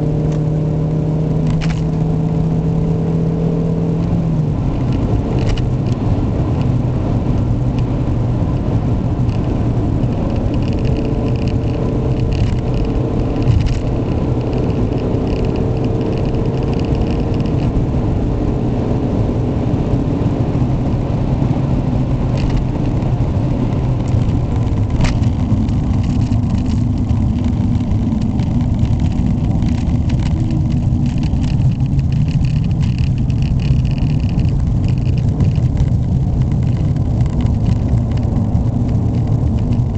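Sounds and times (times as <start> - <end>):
car engine running: 0.0 - 39.9
tyre and road rumble: 0.0 - 39.9.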